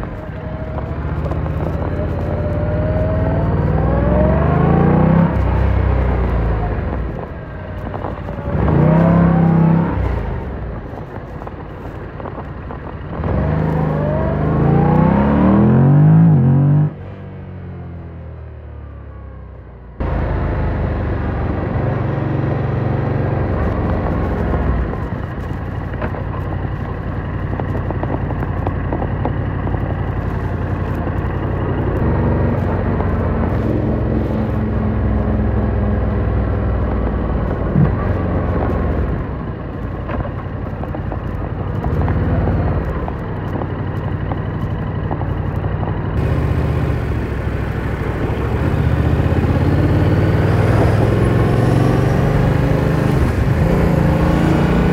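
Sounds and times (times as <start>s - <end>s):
motorcycle engine revving: 0.0s - 11.4s, 12.5s - 18.5s, 20.0s - 54.9s
wind and tyre noise: 0.0s - 54.9s.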